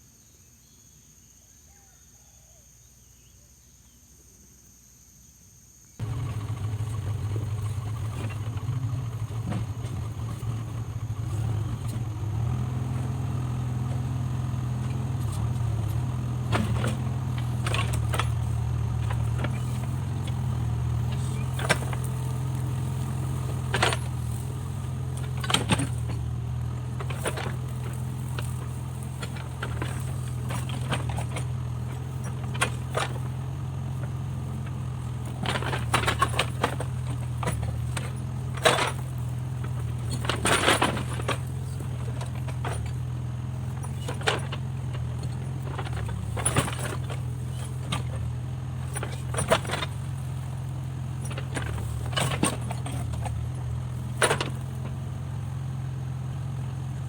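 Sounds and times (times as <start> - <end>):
metallic clanks and knocks: 6.0 - 55.1
diesel engine running: 6.0 - 57.0.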